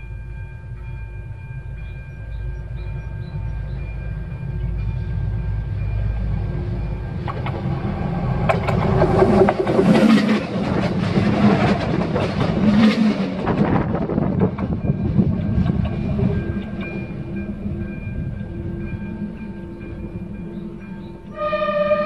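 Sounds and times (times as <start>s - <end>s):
train passing overhead: 0.0s - 22.0s
wheels clicking on rails: 0.0s - 22.0s.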